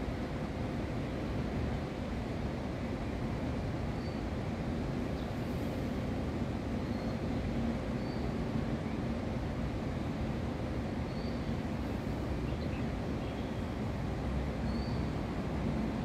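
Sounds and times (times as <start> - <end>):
faint steady hum: 0.0 - 16.0
low urban rumble: 0.0 - 16.0.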